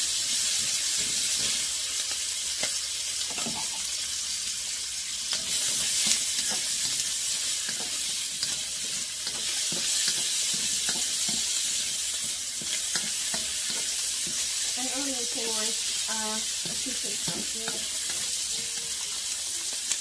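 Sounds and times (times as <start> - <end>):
sausage sizzling in a wok: 0.0 - 20.0.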